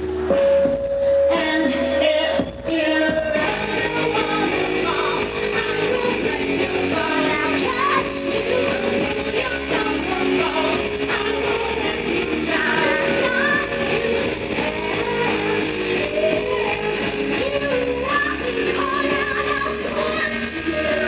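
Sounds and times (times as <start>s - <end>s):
live band music: 0.0s - 21.0s
woman singing into a microphone: 0.2s - 21.0s.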